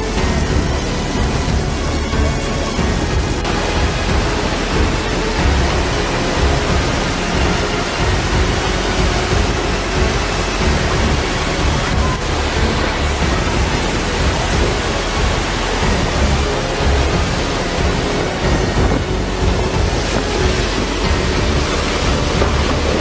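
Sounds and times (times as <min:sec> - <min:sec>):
muddy water and boulders rushing: 0:00.0 - 0:23.0.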